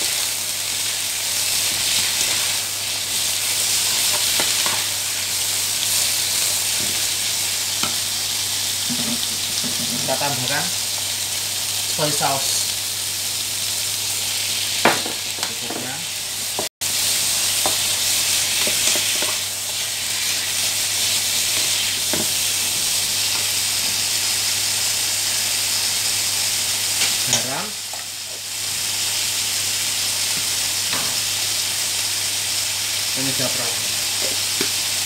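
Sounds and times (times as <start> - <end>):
greens sizzling in a wok: 0.0 - 35.0.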